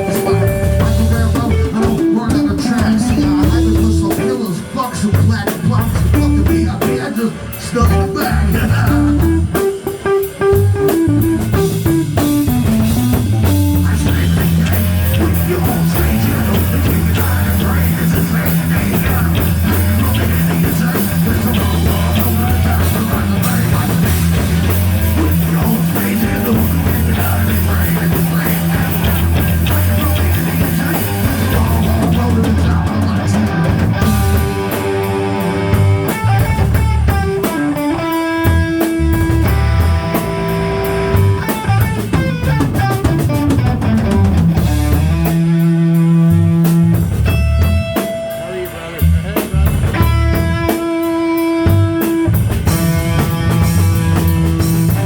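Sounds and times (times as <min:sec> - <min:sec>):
bass line: 0:00.0 - 0:55.0
drum kit: 0:00.0 - 0:55.0
electric guitar: 0:00.0 - 0:55.0.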